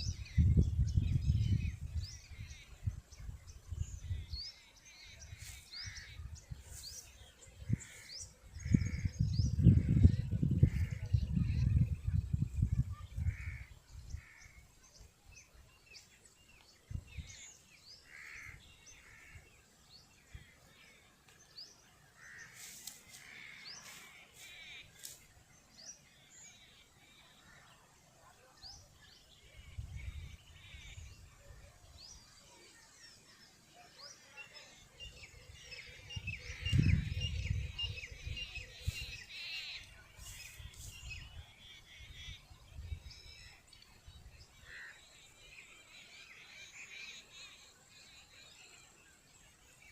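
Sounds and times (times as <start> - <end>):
birds chirping and cawing: 0.0 - 49.9.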